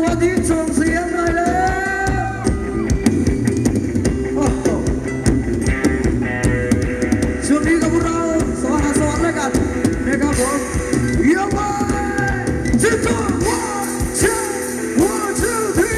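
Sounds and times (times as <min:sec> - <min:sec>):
live band playing dance music: 0:00.0 - 0:15.9
steady drum beat: 0:00.0 - 0:15.9.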